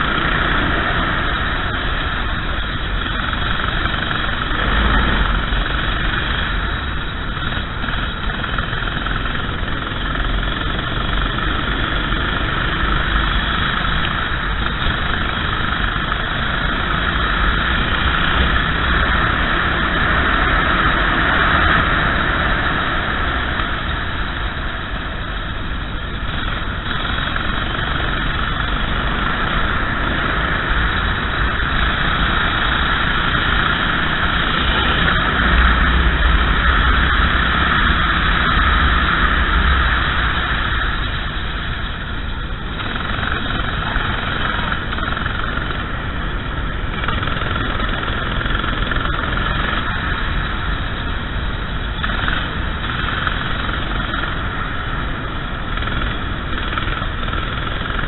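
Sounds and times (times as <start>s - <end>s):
racing kart engine: 0.0s - 58.0s.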